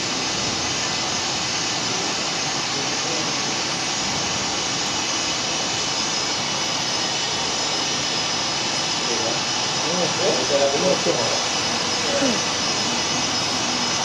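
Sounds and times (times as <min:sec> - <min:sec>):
jet engine roar over loudspeakers: 0:00.0 - 0:14.0.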